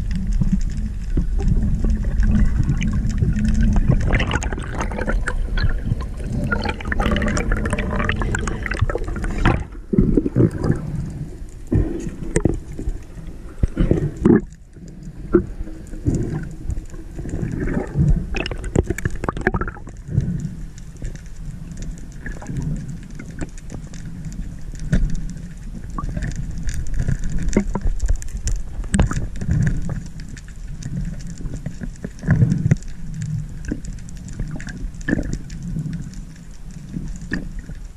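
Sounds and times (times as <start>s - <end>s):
underwater clicks and knocks: 0.0s - 11.1s, 11.7s - 36.2s
low rumble of moving water: 0.0s - 37.9s.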